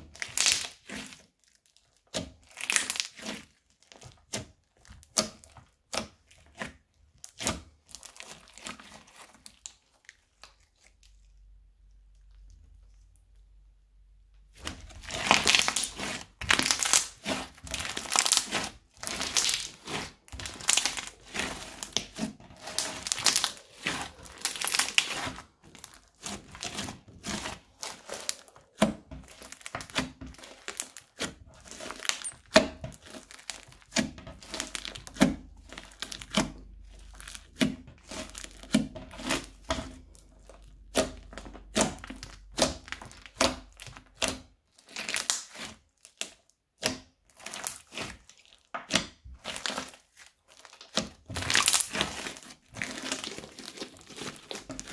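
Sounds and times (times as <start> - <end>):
slime crackling: 0.1 - 13.6, 14.5 - 54.9.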